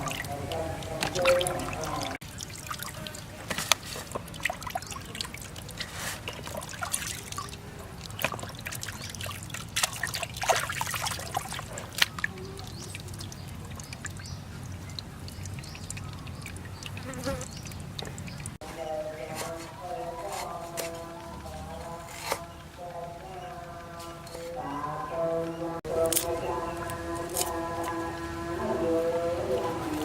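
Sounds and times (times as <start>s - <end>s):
water trickling and splashing: 0.0s - 24.6s, 25.4s - 30.0s.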